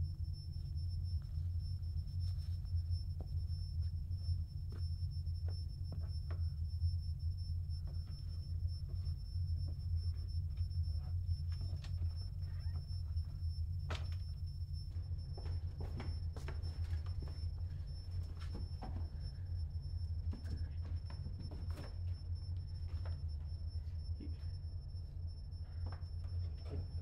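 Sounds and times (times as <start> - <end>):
low throbbing drone: 0.0 - 27.0.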